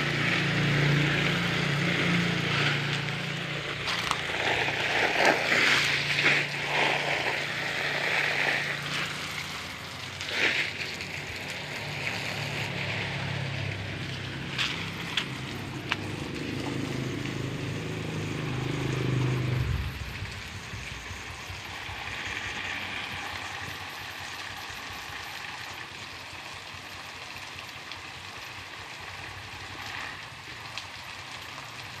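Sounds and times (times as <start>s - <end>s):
hose spray on dry leaves: 0.0s - 32.0s.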